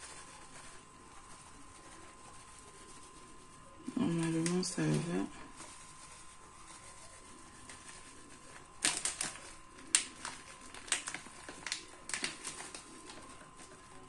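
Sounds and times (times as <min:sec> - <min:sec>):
grated cheese shaken from container: 0:00.0 - 0:14.0.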